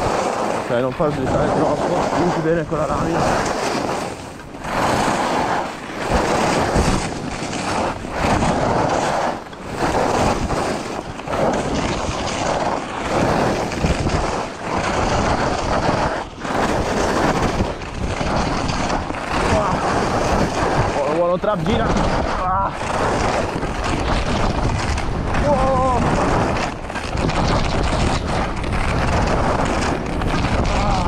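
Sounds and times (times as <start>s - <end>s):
skis scraping on hard snow: 0.0s - 31.0s
wind on microphone: 0.0s - 31.0s.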